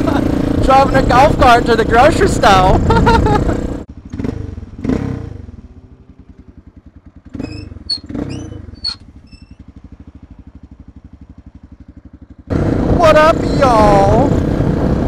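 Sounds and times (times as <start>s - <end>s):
motorcycle engine idling: 0.0s - 14.3s.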